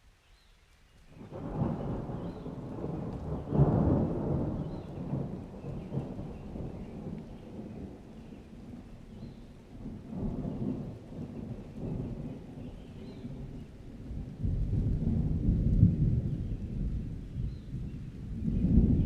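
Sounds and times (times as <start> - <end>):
light rain: 0.0 - 19.0
rolling thunder: 1.2 - 19.0.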